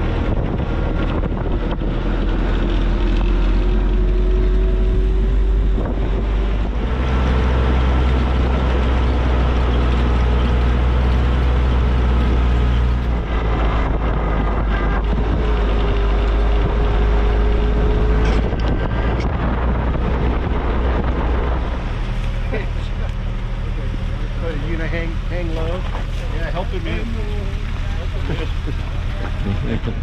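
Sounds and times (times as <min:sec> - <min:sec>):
jeep engine and road rumble: 0:00.0 - 0:30.0.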